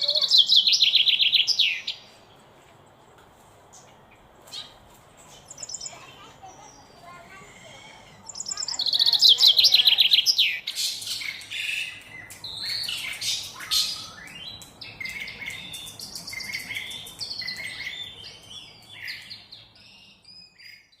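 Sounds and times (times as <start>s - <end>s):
bird singing: 0.0s - 2.6s, 3.7s - 21.0s.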